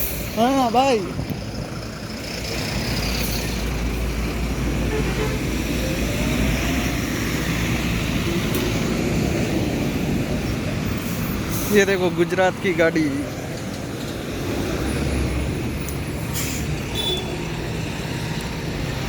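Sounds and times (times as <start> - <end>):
tyre and road noise: 0.0 - 19.0
vehicle engines running: 0.0 - 19.0.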